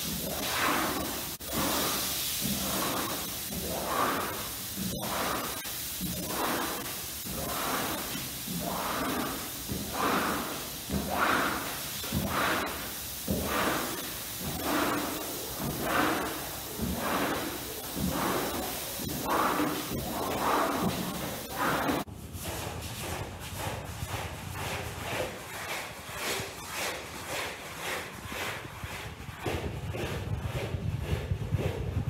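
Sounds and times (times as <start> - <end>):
paddles swishing water on rug: 0.0 - 32.0.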